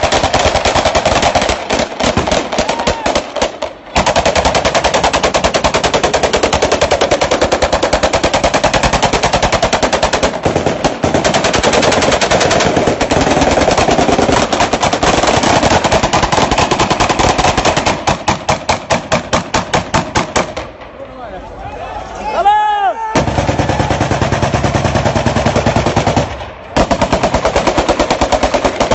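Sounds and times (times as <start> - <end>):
automatic rifle fire: 0.0 - 20.8, 23.2 - 28.9.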